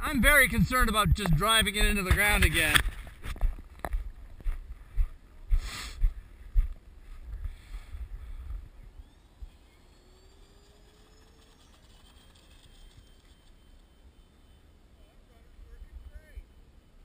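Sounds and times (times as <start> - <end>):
electric ducted fans whining: 0.0 - 17.0.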